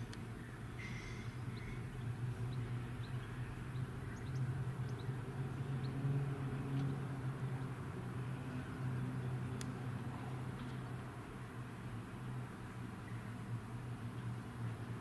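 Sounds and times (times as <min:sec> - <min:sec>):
propeller aircraft drone: 0:00.0 - 0:15.0.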